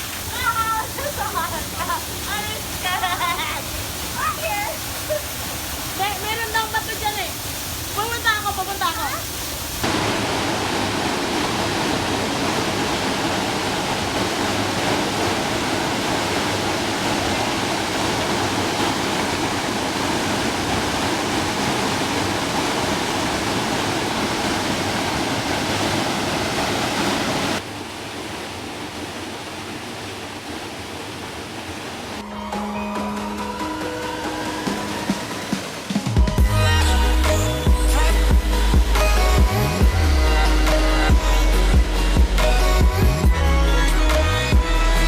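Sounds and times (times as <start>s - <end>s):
waterfall rushing: 0.0s - 32.3s, 33.1s - 43.3s.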